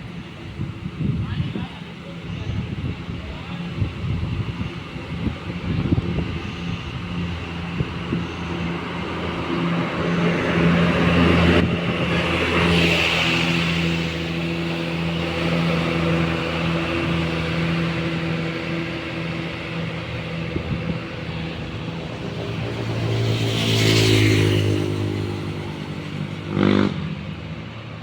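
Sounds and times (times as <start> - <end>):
bus engine running: 0.0 - 28.0.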